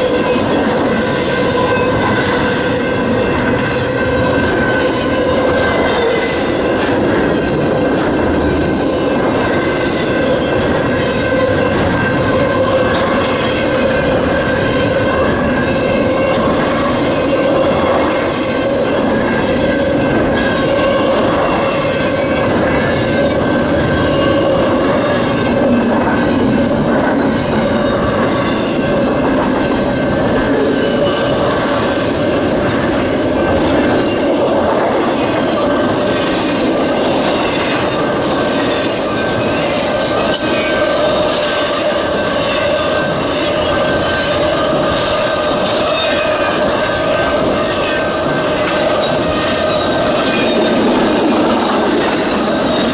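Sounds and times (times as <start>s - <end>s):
freight train cars rolling: 0.0s - 52.9s
wheels squealing on rail: 0.0s - 52.9s.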